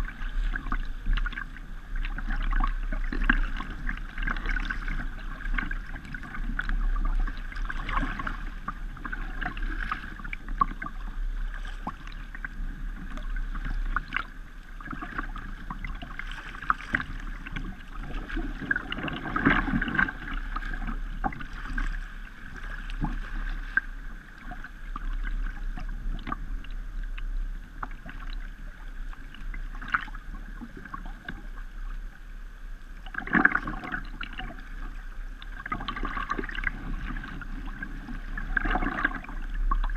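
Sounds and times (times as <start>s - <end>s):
paddle strokes: 0.0s - 39.9s
water splashes: 0.0s - 39.9s.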